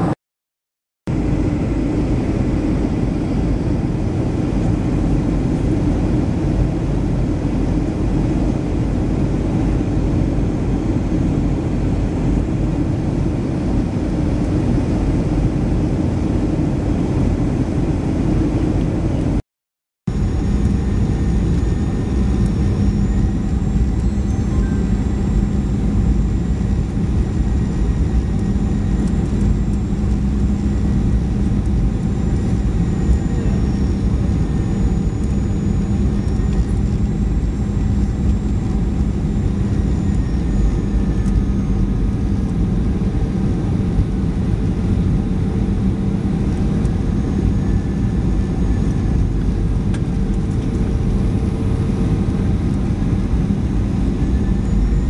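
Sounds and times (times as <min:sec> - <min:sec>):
jet engines and rushing air: 0:01.1 - 0:19.4, 0:20.1 - 0:55.0
steady low hum: 0:01.1 - 0:19.4, 0:20.1 - 0:55.0.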